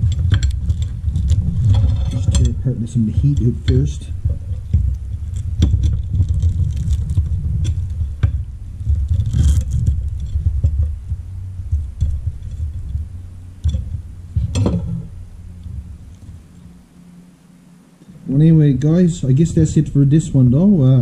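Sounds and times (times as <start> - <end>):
low uneven rumble: 0.0 - 21.0.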